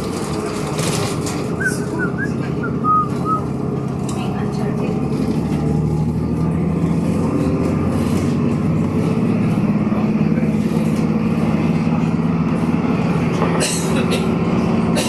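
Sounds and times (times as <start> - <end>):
bus engine drone: 0.0 - 15.0
tyre and road noise: 0.0 - 15.0.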